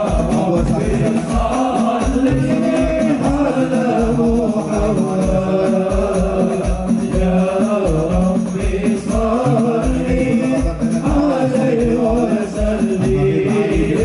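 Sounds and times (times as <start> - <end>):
devotional song singing: 0.0 - 14.0
frame drums beating: 0.0 - 14.0.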